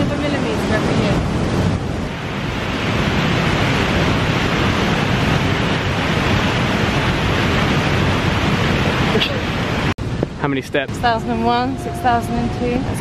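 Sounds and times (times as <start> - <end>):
river rushing: 0.0 - 13.0
wind buffeting microphone: 0.0 - 13.0.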